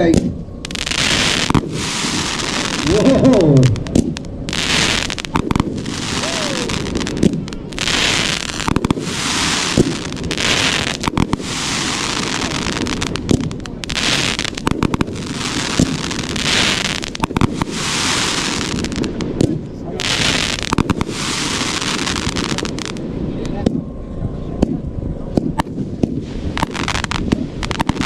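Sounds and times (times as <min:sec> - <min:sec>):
dense firework crackling: 0:00.0 - 0:23.8, 0:24.6 - 0:28.0
firework bangs: 0:00.0 - 0:23.8, 0:24.6 - 0:28.0.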